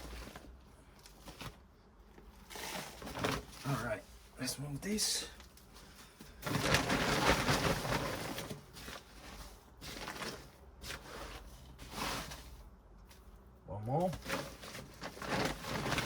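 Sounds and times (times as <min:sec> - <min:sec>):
rustling and scraping of grow bag: 0:00.0 - 0:16.0.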